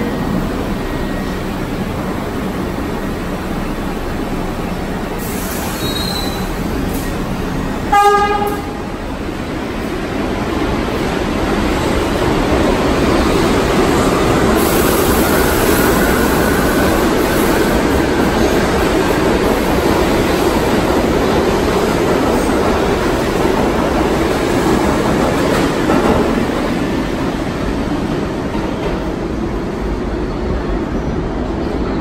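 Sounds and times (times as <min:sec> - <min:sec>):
subway train wheels rumbling: 0:00.0 - 0:32.0.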